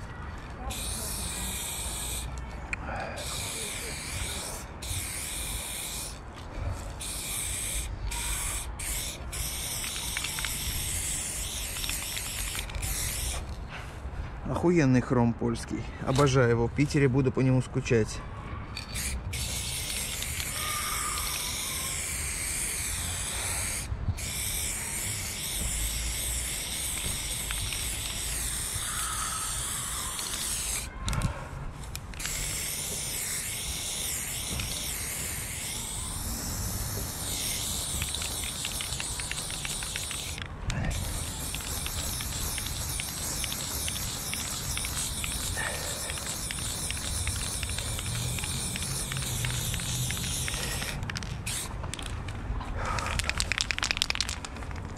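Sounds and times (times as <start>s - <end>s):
spray paint can hissing: 0.0s - 2.5s, 3.2s - 13.6s, 18.7s - 31.2s, 31.8s - 54.9s.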